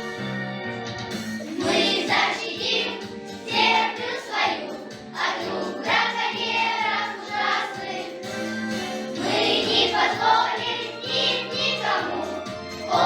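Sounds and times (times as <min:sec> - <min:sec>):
instrumental accompaniment: 0:00.0 - 0:13.0
children's choir singing: 0:01.4 - 0:13.0.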